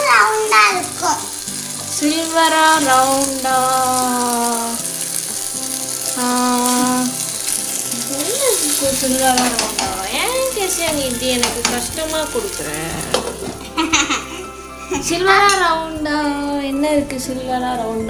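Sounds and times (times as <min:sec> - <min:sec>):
masala sizzling in oil: 0:00.0 - 0:17.9
music: 0:00.0 - 0:18.0.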